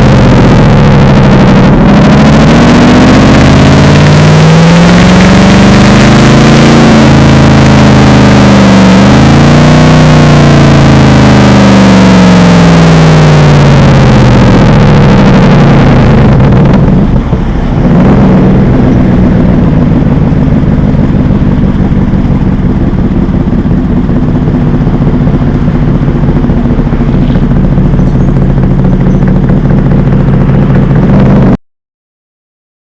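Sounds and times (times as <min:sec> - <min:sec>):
car engine revving and idling: 0:00.0 - 0:31.6.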